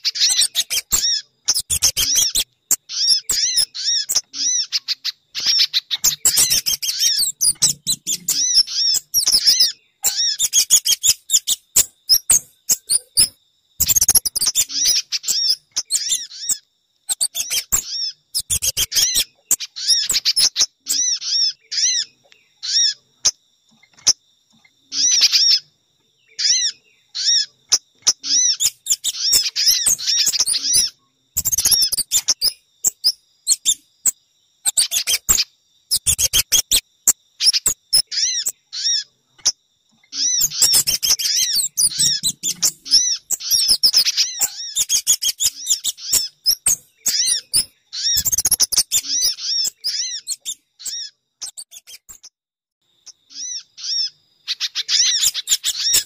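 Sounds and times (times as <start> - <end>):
rapid high bird chirping: 0.0 - 24.2, 24.9 - 52.4, 53.0 - 56.0.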